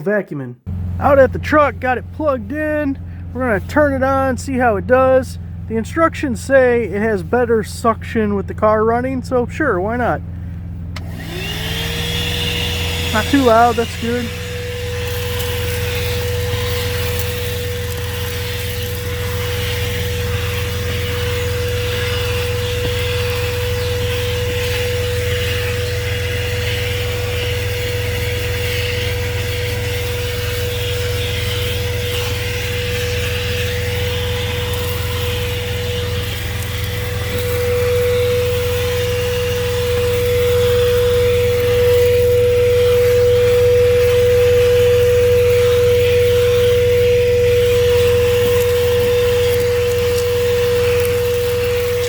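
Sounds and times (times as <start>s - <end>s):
idling engine hum: 0.7s - 52.0s
handheld vacuum motor whine: 9.9s - 52.0s.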